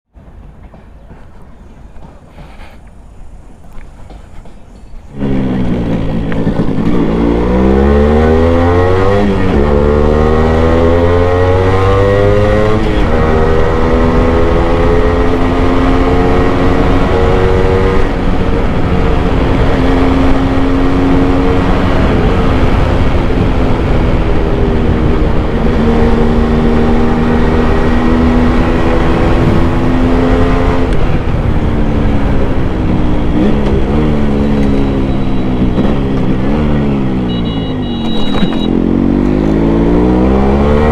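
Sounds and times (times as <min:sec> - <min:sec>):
wind and road noise: 0:00.1 - 0:40.9
motorcycle engine revving: 0:05.1 - 0:40.9.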